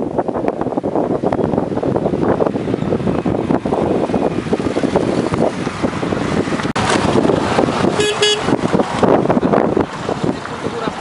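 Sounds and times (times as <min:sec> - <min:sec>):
road traffic: 0:00.0 - 0:11.0
wind buffeting microphone: 0:00.0 - 0:11.0.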